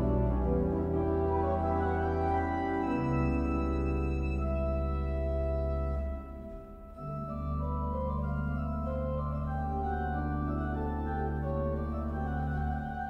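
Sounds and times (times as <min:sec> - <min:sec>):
pipe organ chords: 0:00.0 - 0:13.0.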